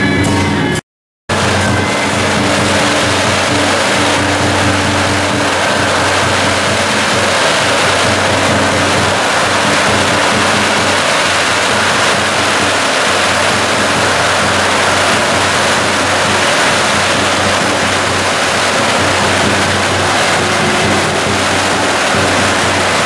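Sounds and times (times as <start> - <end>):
firecrackers crackling: 1.3 - 23.0
low hum: 1.3 - 23.0.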